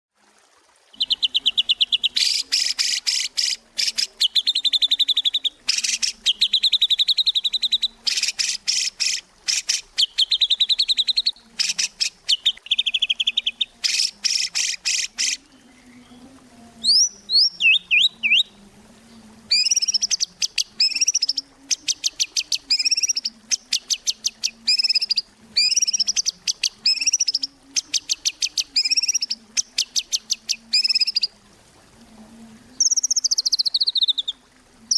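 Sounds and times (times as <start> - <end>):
bird whistled phrases: 0.9 - 15.4, 16.9 - 18.5, 19.5 - 31.3, 32.8 - 34.9.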